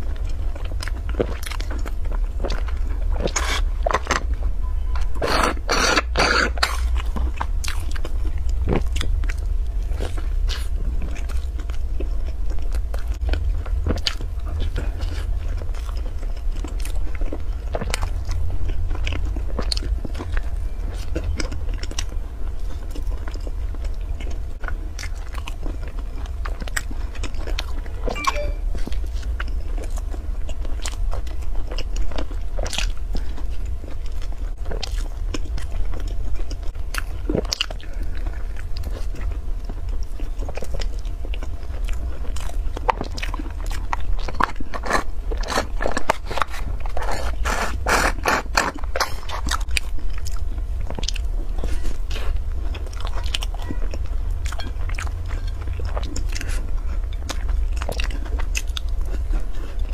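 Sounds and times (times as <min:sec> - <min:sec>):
biting and chewing bread: 0:00.0 - 0:59.9
steady low hum: 0:00.0 - 0:59.9.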